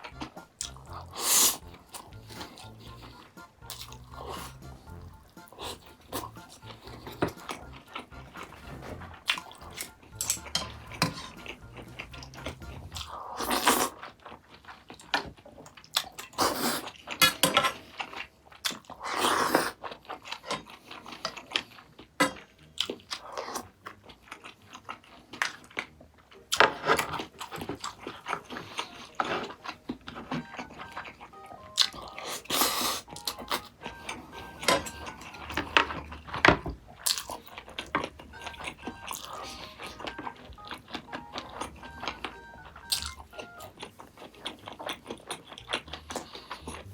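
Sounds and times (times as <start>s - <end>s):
close-miked chewing and biting: 0.0s - 46.9s.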